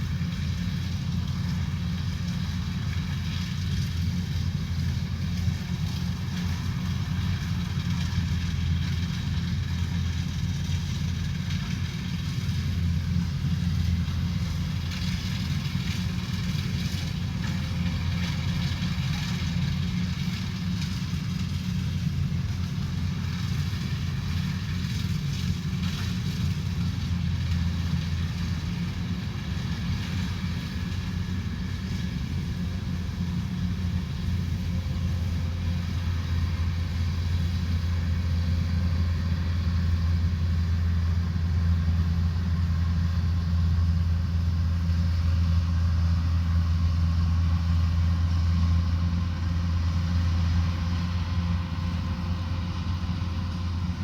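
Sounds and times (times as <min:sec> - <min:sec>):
harvester engine drone: 0:00.0 - 0:54.0.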